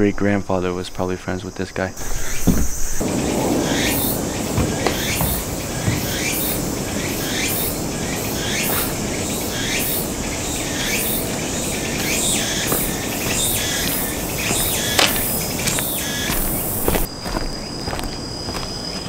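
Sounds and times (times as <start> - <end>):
insects chirping chorus: 0.0 - 19.0
footsteps on stone path: 2.0 - 9.2, 10.6 - 19.0.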